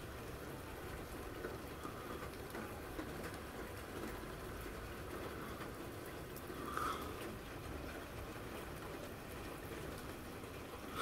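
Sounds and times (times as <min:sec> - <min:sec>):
raindrop ticks: 0:00.0 - 0:11.0
steady rain hiss: 0:00.0 - 0:11.0.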